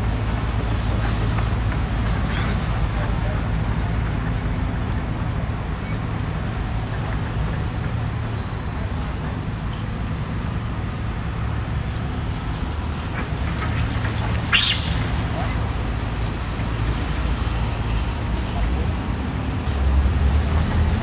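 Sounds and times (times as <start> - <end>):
excavator diesel engine droning: 0.0 - 18.4.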